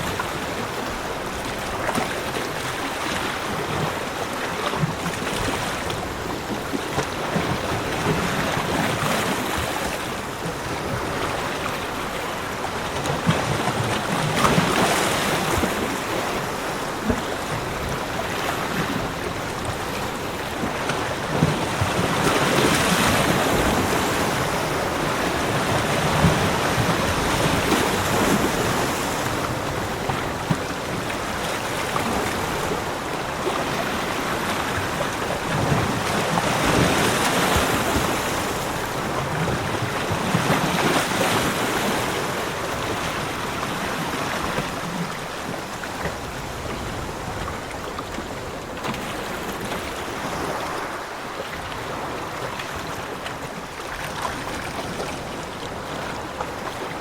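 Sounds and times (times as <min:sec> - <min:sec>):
ocean surf on a beach: 0:00.0 - 0:57.0.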